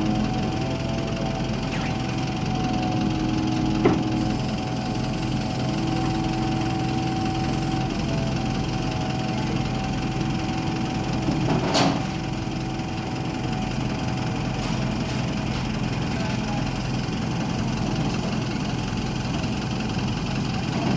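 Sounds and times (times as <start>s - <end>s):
truck engine idling: 0.0s - 20.9s.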